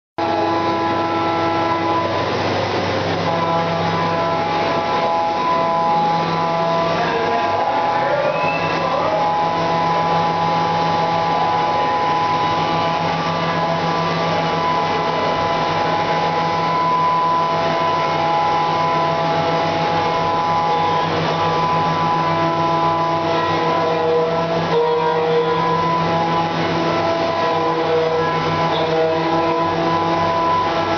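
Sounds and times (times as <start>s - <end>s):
machining center humming: 0.2s - 30.9s.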